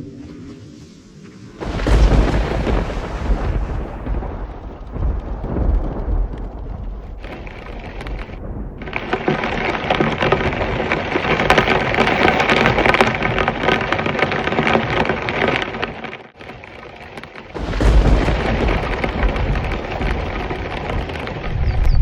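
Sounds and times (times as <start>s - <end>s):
heavy rain falling: 1.5s - 22.0s.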